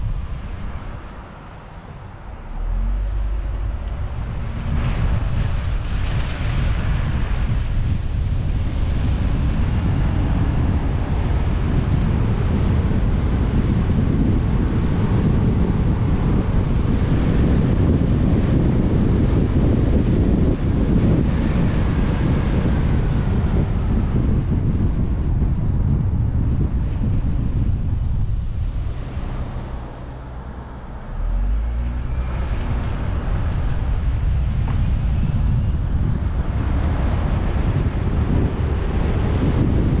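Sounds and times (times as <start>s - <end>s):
car road and wind noise: 0.0s - 40.0s.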